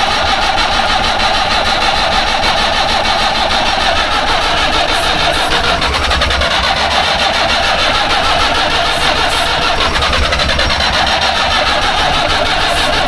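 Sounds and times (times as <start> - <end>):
diesel engine starting: 0.0 - 13.0.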